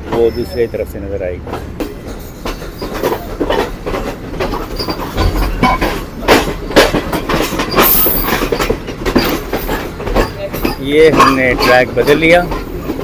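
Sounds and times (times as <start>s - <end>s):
train wheels clattering over points: 0.0s - 13.0s
heavy knocks: 1.5s - 12.7s.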